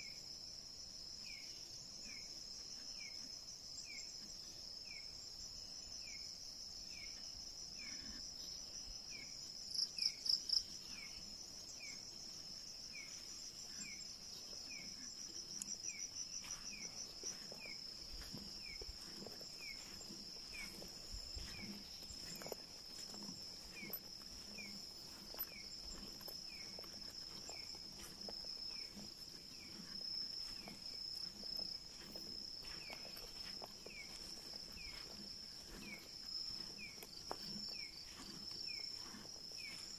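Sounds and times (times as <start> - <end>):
crickets trilling: 0.0 - 39.9
loud pulsed insect calls: 6.9 - 39.9.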